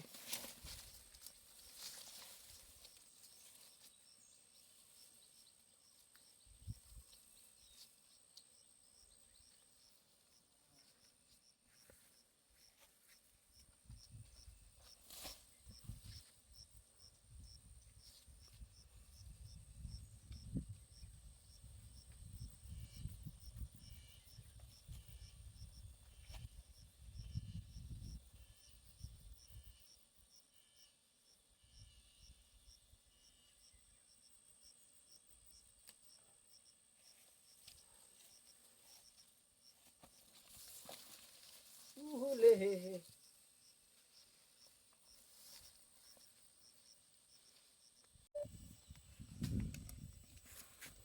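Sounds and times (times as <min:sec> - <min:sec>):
faint insect chirping: 0:00.1 - 0:51.0.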